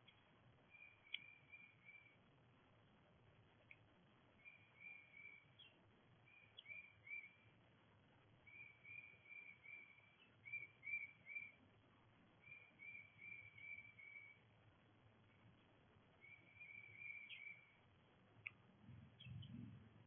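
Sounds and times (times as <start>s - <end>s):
faint low hum: 0.0s - 20.0s
songbird singing: 0.0s - 20.0s.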